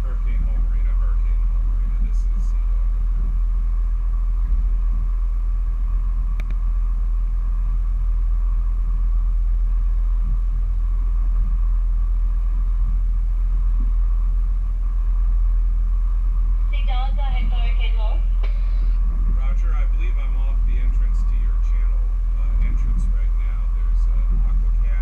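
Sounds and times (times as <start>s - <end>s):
boat engine drone: 0.0s - 25.0s.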